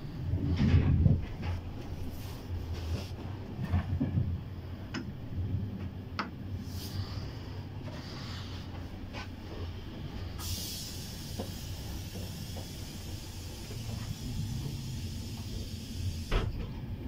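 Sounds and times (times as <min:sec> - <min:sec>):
low rumble of train interior: 0:00.0 - 0:17.0.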